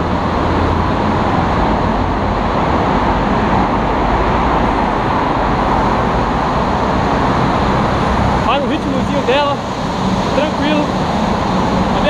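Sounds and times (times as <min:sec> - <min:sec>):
traffic in road tunnel: 0:00.0 - 0:12.0.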